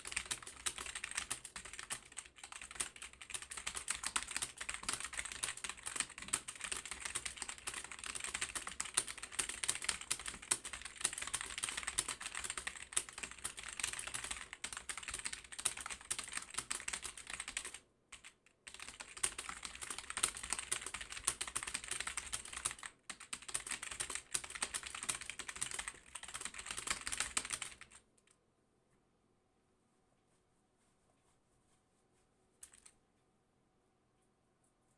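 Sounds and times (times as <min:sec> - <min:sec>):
fast typing on keyboard: 0:00.0 - 0:28.1, 0:32.6 - 0:32.9.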